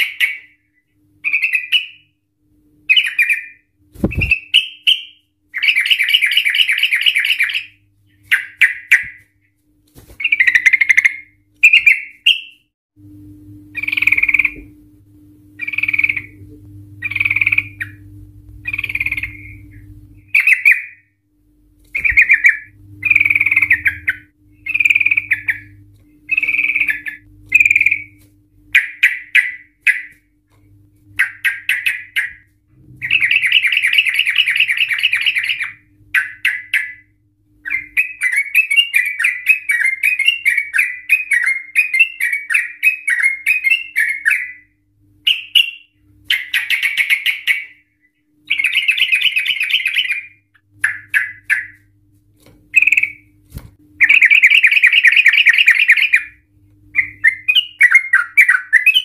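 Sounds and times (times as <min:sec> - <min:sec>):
bird singing: 0:00.0 - 0:02.2, 0:02.9 - 0:09.2, 0:10.2 - 0:12.7, 0:13.7 - 0:14.7, 0:15.6 - 0:18.0, 0:18.6 - 0:21.2, 0:21.9 - 0:30.2, 0:31.2 - 0:51.8, 0:52.7 - 0:53.4, 0:54.0 - 0:59.0.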